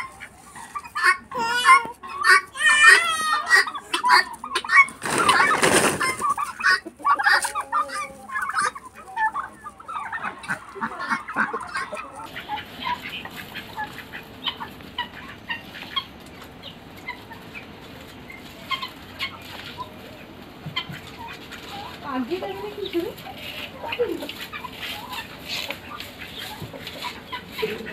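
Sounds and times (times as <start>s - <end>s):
guineafowl calling: 0.0s - 27.9s
turkeys clucking: 0.0s - 27.9s.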